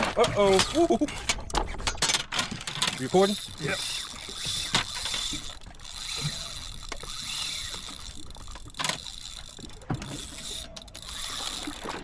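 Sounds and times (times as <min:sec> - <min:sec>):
fishing reel whirring and clicking: 0:00.0 - 0:12.0.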